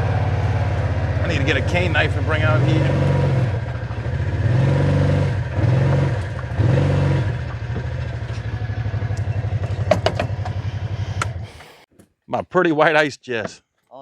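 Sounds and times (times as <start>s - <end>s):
engine idling: 0.0s - 11.9s
utility vehicle engine revving: 0.0s - 11.9s.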